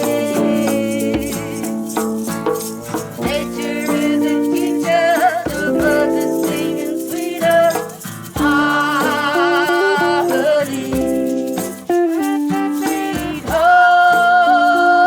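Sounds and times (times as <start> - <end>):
percussion beat: 0.0 - 15.0.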